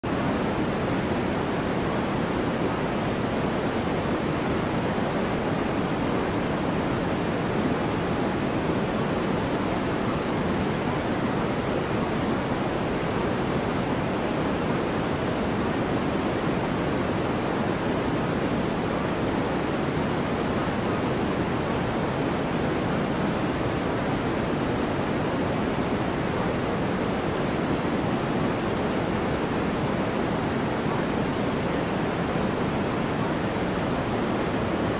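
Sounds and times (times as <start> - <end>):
steady pink noise hiss: 0.0 - 34.9.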